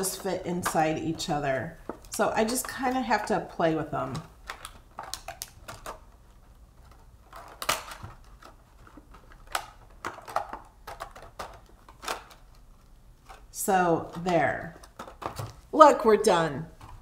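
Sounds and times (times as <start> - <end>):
plastic clicking and crinkling: 0.0 - 15.7, 16.6 - 17.0.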